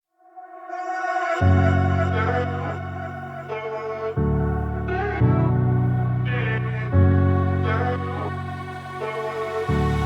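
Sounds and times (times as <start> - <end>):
ambient music tones: 0.2 - 10.0.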